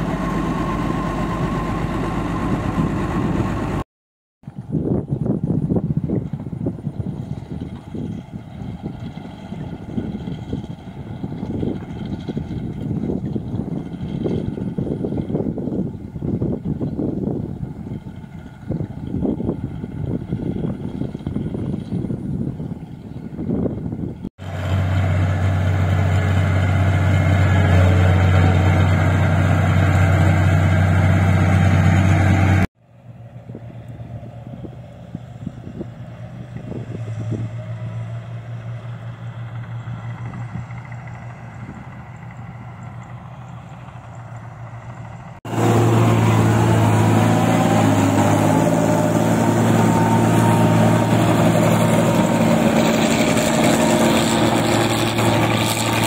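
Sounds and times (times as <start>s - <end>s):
harvester engine humming: 0.0s - 3.8s, 4.5s - 56.0s.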